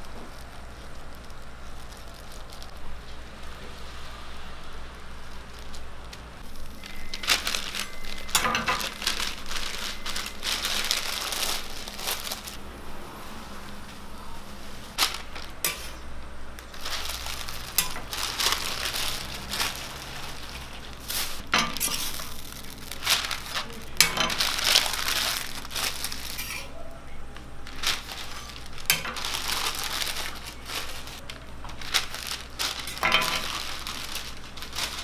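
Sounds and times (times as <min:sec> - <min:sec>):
paper bags rustling and crinkling: 0:00.0 - 0:12.6, 0:13.7 - 0:27.0, 0:27.6 - 0:35.0
steady low hum: 0:00.0 - 0:35.0.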